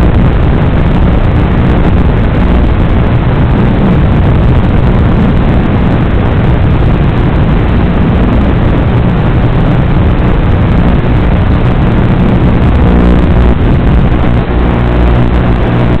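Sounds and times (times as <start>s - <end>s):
faint whine: 0.0s - 16.0s.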